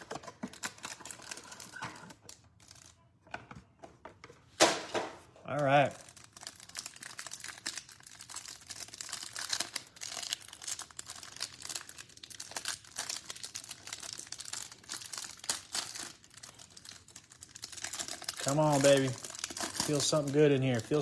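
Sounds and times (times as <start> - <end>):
plastic wrapper crinkling and tearing: 0.0 - 3.2, 5.5 - 21.0.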